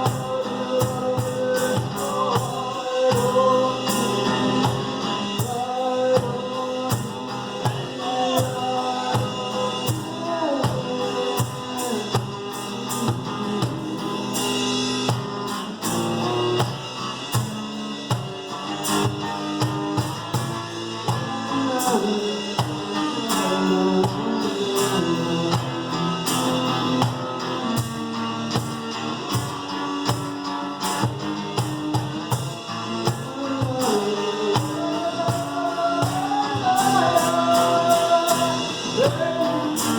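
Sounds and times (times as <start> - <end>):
acoustic guitar: 0.0 - 39.9
drum and percussion hits: 0.0 - 39.9.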